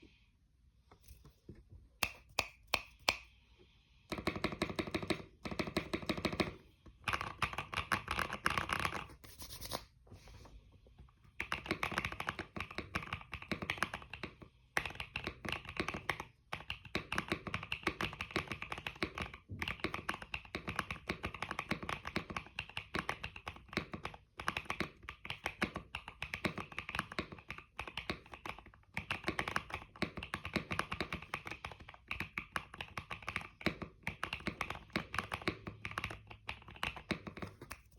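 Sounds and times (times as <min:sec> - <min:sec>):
mechanical keyboard typing: 0:04.1 - 0:09.1, 0:11.4 - 0:37.9.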